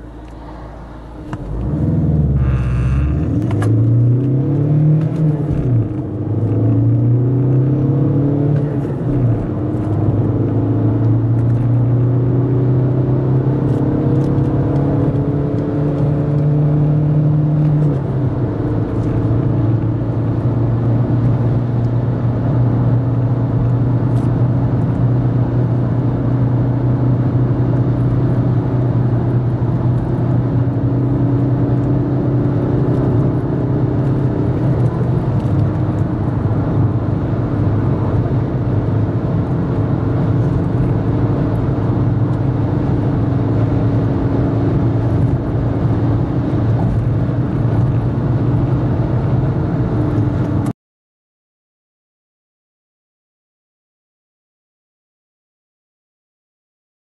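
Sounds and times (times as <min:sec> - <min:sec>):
car engine accelerating: 0:00.0 - 0:50.7.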